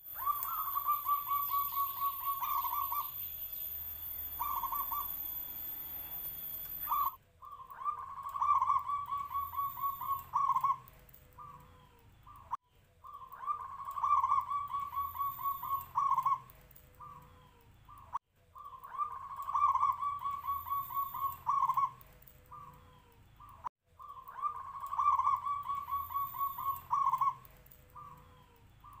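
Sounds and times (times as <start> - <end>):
dove cooing: 0.0 - 3.2, 4.3 - 5.3, 6.8 - 29.0.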